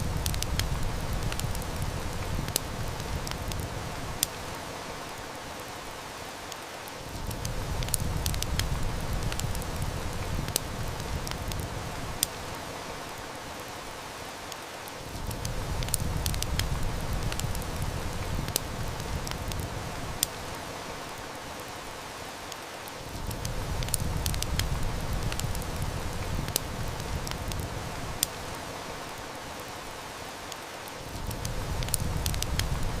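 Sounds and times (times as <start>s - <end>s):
heavy rain hissing: 0.0s - 33.0s
wood fire crackling: 0.0s - 33.0s.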